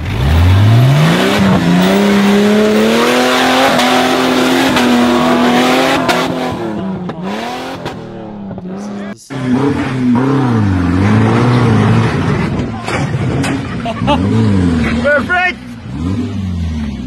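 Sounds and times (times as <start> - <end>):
buggy engine revving: 0.0 - 17.0.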